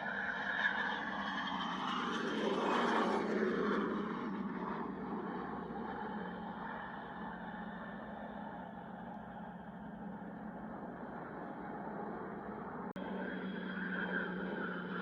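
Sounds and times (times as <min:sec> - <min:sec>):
aircraft flying past: 0:00.0 - 0:15.0.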